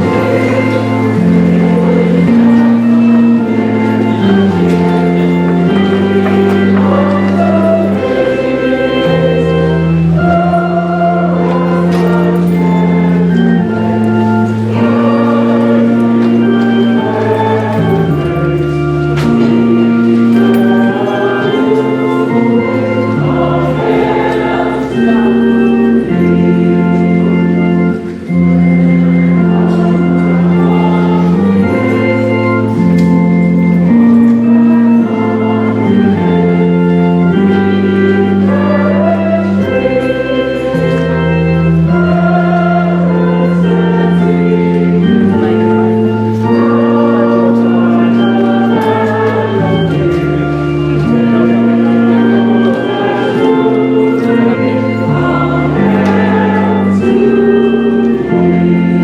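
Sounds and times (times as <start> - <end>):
organ playing slow chords: 0.0 - 59.0
voices singing: 0.0 - 59.0.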